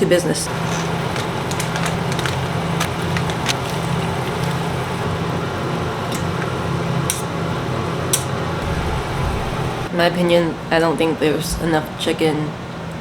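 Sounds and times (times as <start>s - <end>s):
fan humming: 0.0s - 12.5s.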